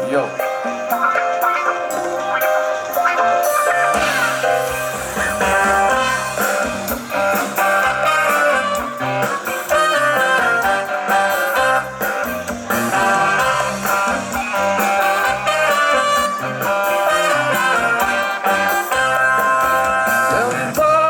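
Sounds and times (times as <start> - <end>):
band playing upbeat music: 0.0 - 21.0
guitar: 0.0 - 21.0
bass line: 1.9 - 21.0.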